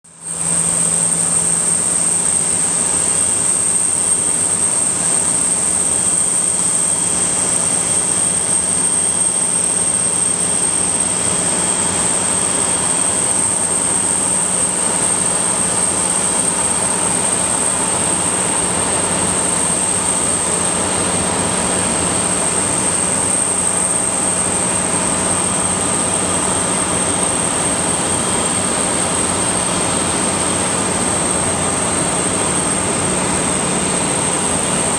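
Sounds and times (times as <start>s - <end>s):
jet engines running: 0.1s - 34.9s.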